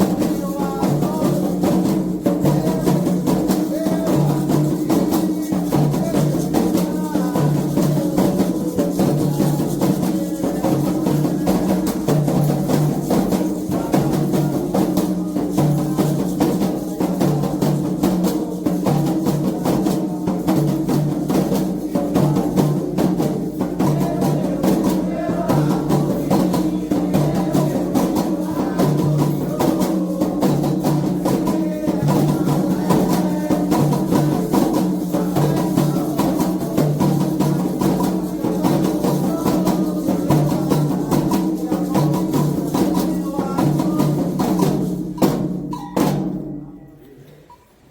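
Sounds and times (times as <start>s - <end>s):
bright struck percussion: 0.0s - 46.6s
hand drums playing: 0.0s - 46.8s.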